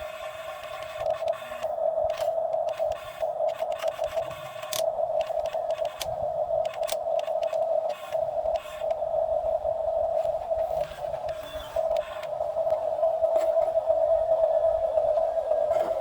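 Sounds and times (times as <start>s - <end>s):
excavator droning whine: 0.0s - 16.0s.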